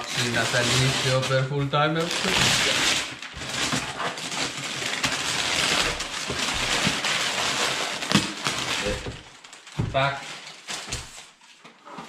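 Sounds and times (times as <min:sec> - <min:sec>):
wrapping paper tearing and crumpling: 0:00.0 - 0:11.4.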